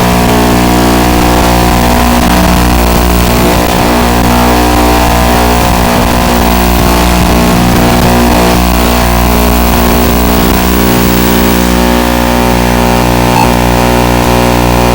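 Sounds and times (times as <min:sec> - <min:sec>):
steady electronic buzz: 0:00.0 - 0:14.9.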